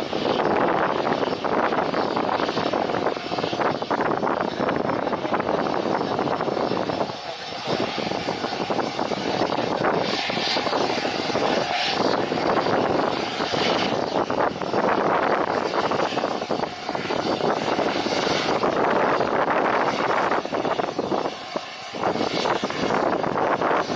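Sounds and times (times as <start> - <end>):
airplane engine drone: 0.0 - 23.9.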